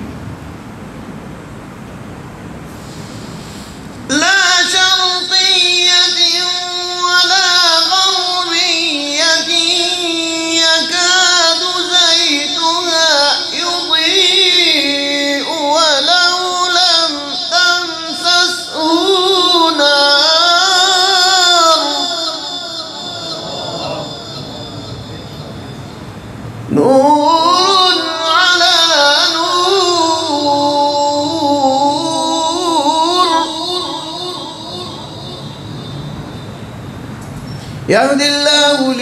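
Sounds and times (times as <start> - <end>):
man reciting in ornamented voice: 4.0 - 26.0, 26.6 - 36.0, 37.8 - 39.0.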